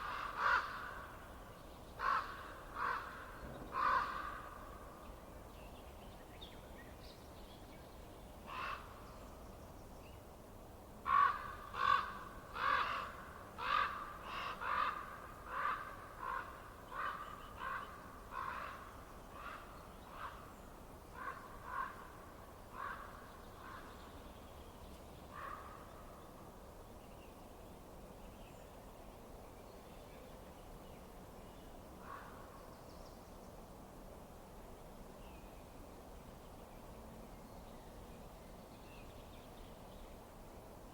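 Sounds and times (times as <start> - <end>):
faint steady background noise: 0.0 - 40.9.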